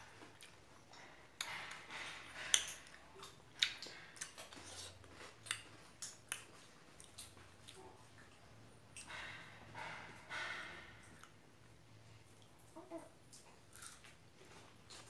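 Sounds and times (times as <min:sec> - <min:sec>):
chewing strawberries: 0:00.0 - 0:11.4, 0:12.2 - 0:15.0.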